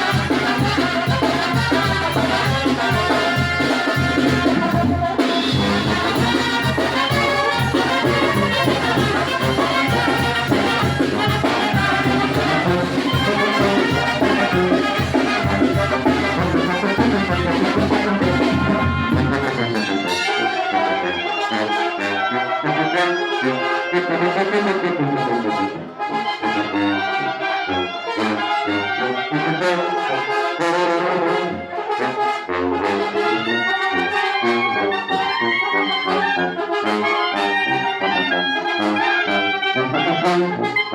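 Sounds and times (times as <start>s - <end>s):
brass band playing: 0.0s - 40.9s.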